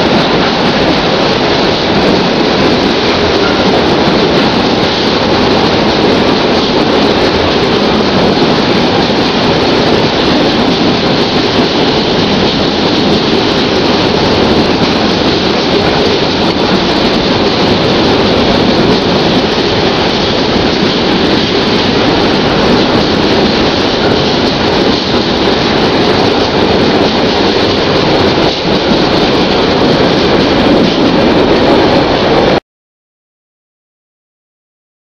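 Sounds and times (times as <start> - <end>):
freight train wagons rolling past: 0.0 - 32.6.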